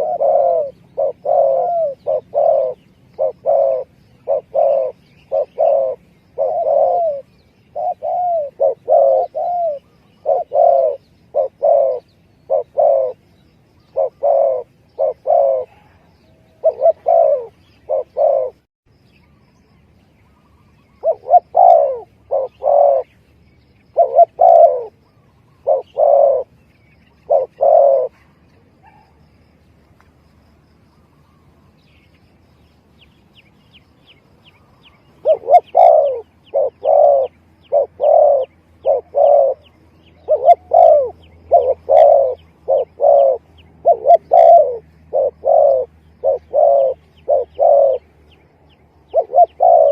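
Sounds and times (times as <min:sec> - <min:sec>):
dove cooing: 0:00.0 - 0:18.7, 0:20.6 - 0:29.5, 0:34.0 - 0:49.9.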